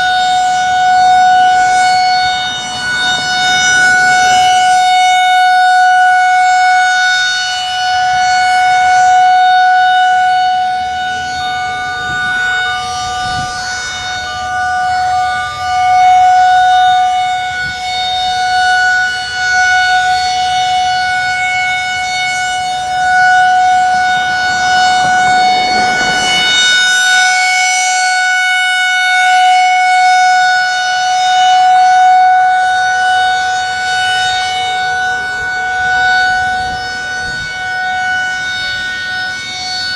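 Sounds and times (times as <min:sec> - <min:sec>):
distant wavering sirens: 0:00.0 - 0:39.9
tornado siren steady tone: 0:00.0 - 0:39.9.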